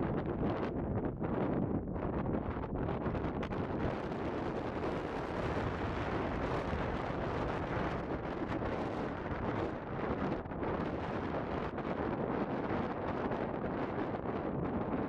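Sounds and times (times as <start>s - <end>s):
storm wind on microphone: 0.0s - 15.0s.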